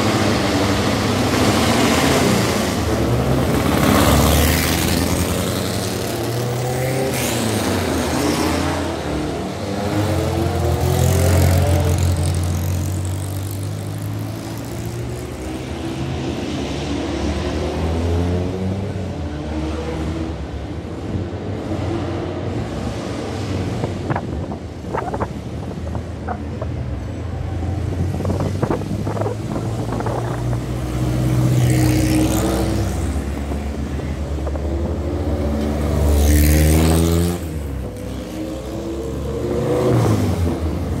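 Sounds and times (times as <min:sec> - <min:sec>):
car engines running and revving: 0:00.0 - 0:41.0.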